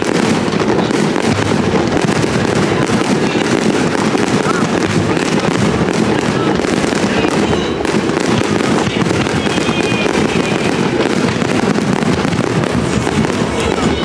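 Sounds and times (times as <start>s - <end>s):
faint firework whistles: 0.0s - 14.0s
fireworks booming and crackling: 0.0s - 14.0s.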